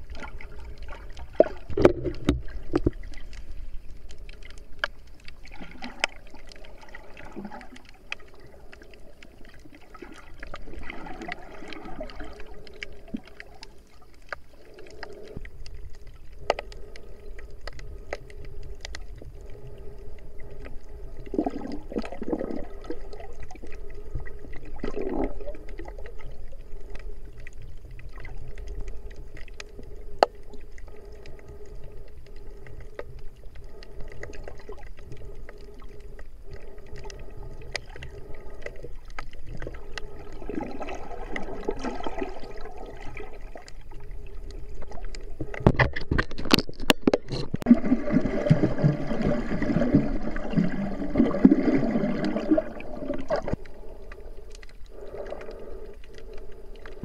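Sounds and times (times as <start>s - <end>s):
faint steady hum: 0.0s - 57.0s
muffled underwater water movement: 0.0s - 57.0s.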